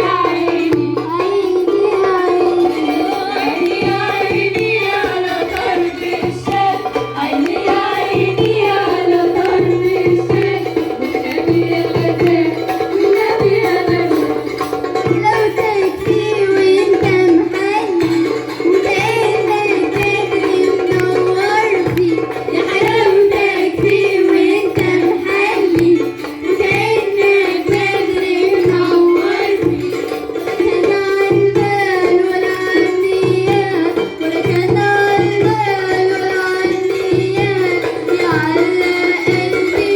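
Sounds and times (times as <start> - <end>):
plucked lyre melody: 0.0 - 39.9
steady drum beat: 0.0 - 39.9.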